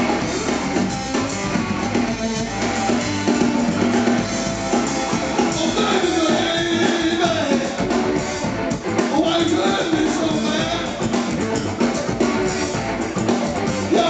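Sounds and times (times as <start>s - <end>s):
drum kit: 0.0s - 14.0s
electric bass: 0.0s - 14.0s
electric guitar: 0.0s - 14.0s.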